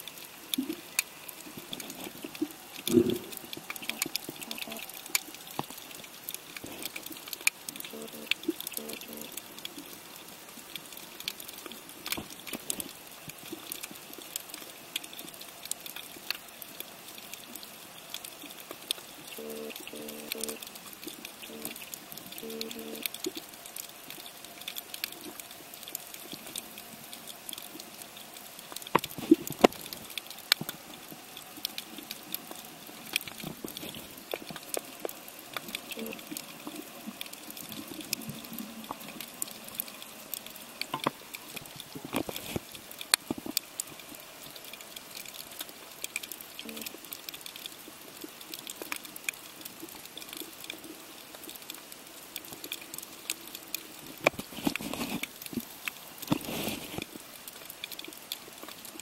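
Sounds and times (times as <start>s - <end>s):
crackling clicks: 0.0s - 59.0s.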